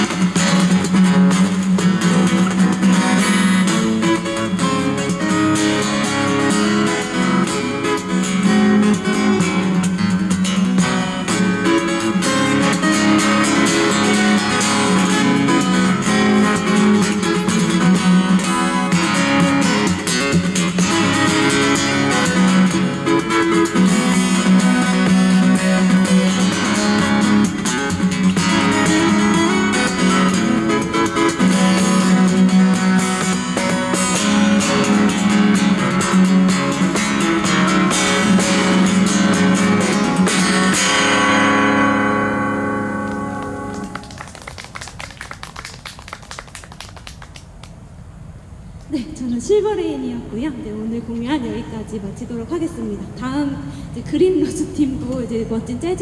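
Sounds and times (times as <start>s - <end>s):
percussive acoustic guitar: 0.0s - 47.8s.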